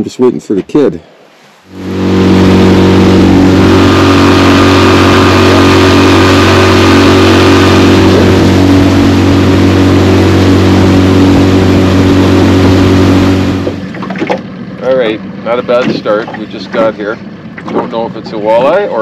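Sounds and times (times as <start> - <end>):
outboard motor droning: 1.2 - 19.0.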